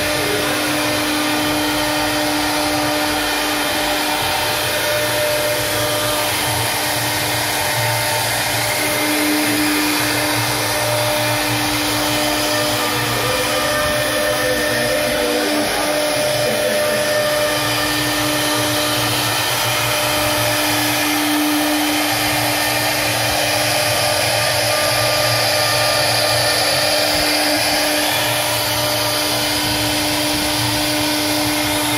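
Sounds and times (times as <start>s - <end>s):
router spindle whirring: 0.0s - 31.9s.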